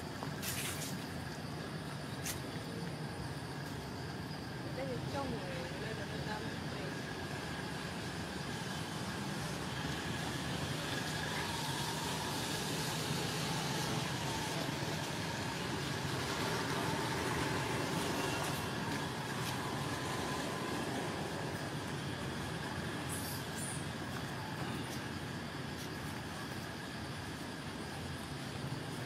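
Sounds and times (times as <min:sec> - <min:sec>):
distant road traffic hum: 0:00.0 - 0:29.0.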